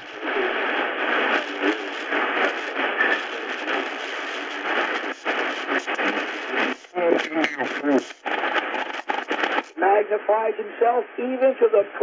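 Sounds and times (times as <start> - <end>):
radio static and hiss: 0.0 - 12.0
weak radio signal fragments: 0.0 - 12.0.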